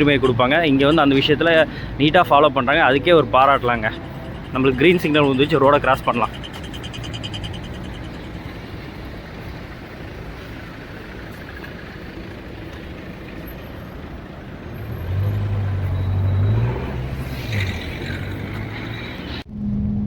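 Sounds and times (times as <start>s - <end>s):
city road traffic: 0.0s - 20.0s
heavy vehicle engine hum: 0.0s - 20.0s.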